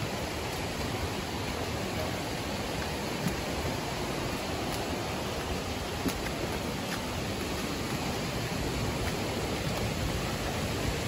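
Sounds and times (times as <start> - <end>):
stream and waterfall rushing: 0.0 - 11.0.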